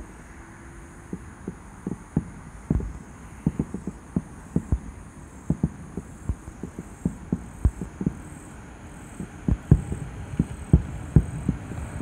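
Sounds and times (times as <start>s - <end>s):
distant fireworks booming: 1.0s - 12.0s.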